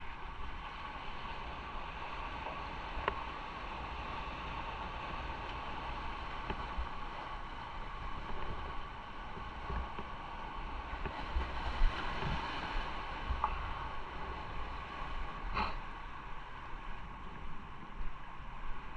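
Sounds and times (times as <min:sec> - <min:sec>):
wind gusting on microphone: 0:00.0 - 0:18.9.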